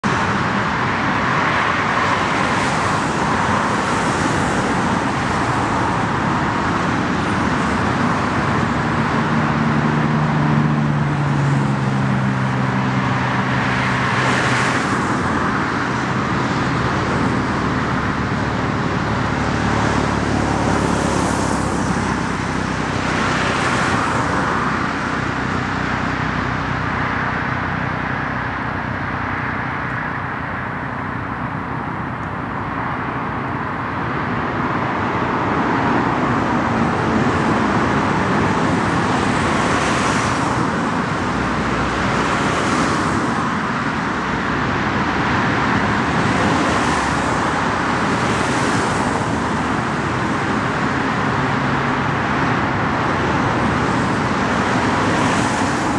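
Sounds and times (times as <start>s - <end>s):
cars passing: 0.0s - 55.9s
low engine hum: 0.0s - 55.9s
road traffic noise: 0.0s - 55.9s.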